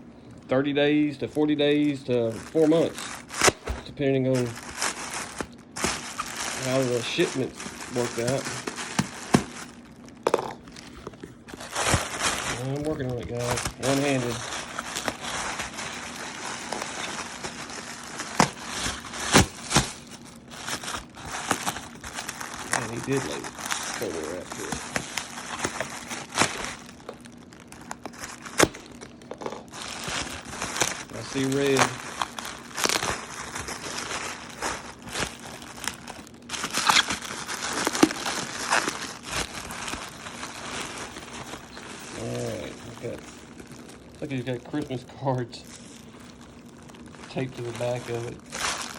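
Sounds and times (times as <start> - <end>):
plastic wrap rustling: 0.6 - 48.9
packaging crinkling: 0.8 - 48.9.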